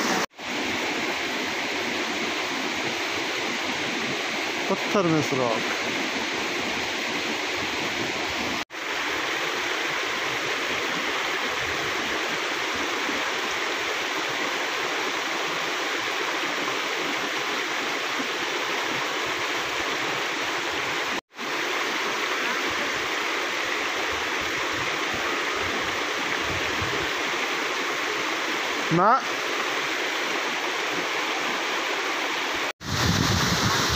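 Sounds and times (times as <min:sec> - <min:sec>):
water rushing over boulders: 0:00.0 - 0:33.9.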